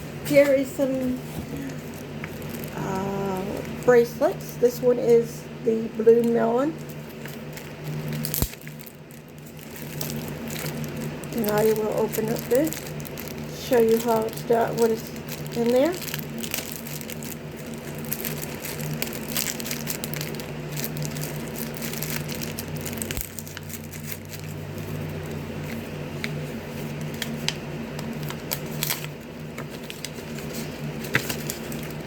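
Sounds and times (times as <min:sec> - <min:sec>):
steady low hum: 0:00.0 - 0:32.0
plastic packaging crinkling: 0:00.3 - 0:04.6, 0:06.2 - 0:32.0.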